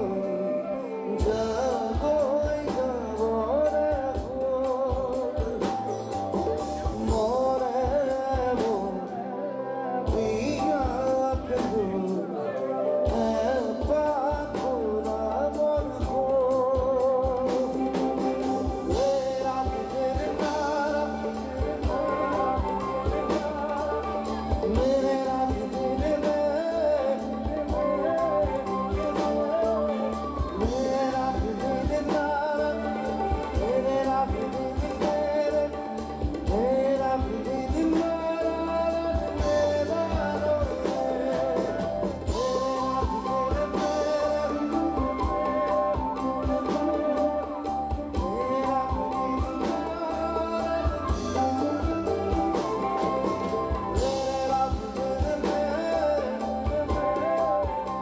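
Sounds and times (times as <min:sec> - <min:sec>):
man singing: 0:00.0 - 0:58.0
strummed guitar: 0:00.0 - 0:58.0
drum kit beat: 0:01.2 - 0:09.1, 0:10.1 - 0:12.3, 0:13.0 - 0:58.0.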